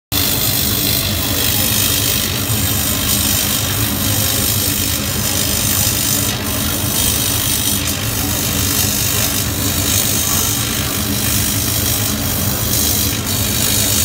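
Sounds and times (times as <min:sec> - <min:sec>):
laser cutter mechanical hum: 0:00.1 - 0:14.0.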